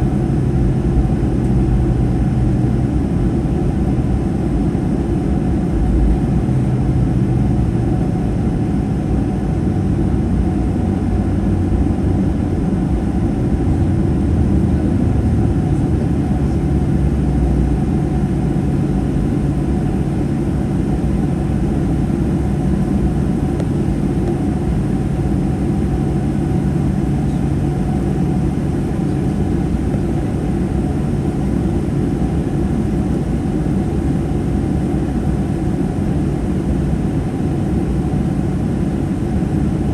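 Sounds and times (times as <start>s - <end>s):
airplane cabin drone: 0.0s - 39.9s
low engine hum: 0.0s - 39.9s.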